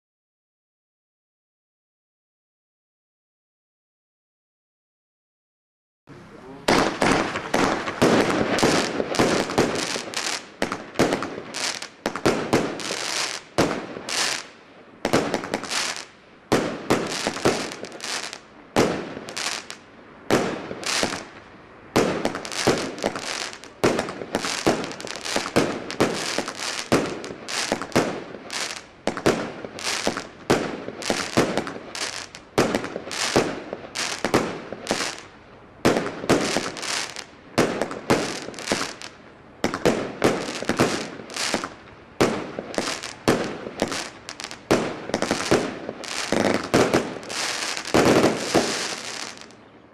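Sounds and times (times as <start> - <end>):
fireworks bursting with sharp bangs: 6.2 - 49.6
fireworks crackling: 6.2 - 49.6.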